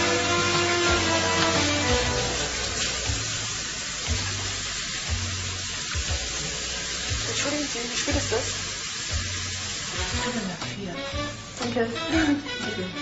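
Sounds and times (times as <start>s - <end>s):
tap water running into basin: 0.0s - 13.0s.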